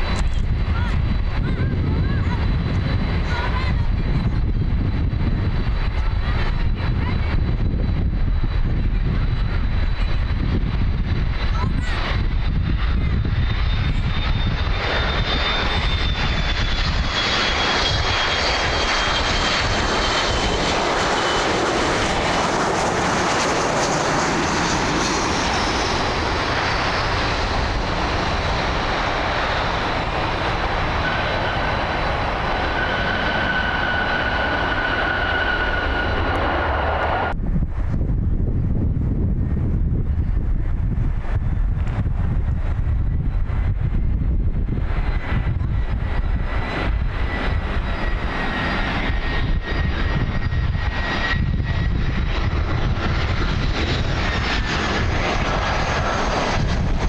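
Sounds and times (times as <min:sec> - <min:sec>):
jet engine whine: 0:00.0 - 0:57.0
jet noise: 0:00.0 - 0:57.0.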